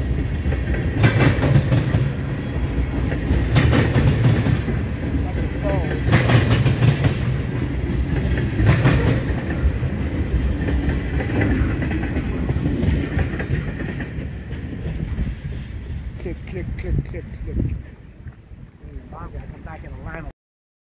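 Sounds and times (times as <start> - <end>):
freight train wheels clacking: 0.0 - 17.8.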